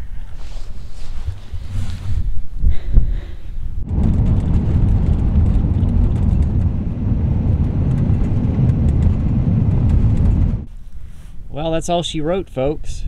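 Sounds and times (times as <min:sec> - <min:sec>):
tyre and wind rumble in car: 0:00.0 - 0:10.7.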